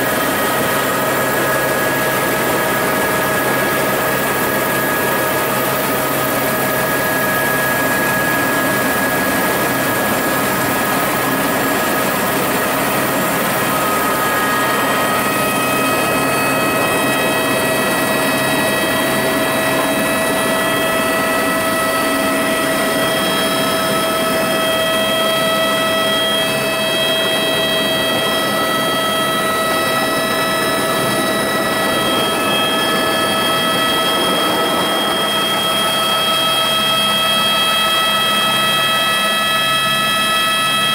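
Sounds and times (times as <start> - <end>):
engine drone with whining tones: 0.0 - 40.9.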